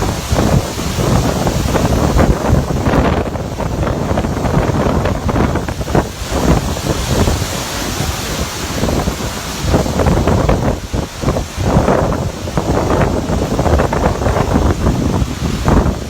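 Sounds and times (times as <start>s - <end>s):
strong wind gusting against microphone: 0.0s - 16.0s.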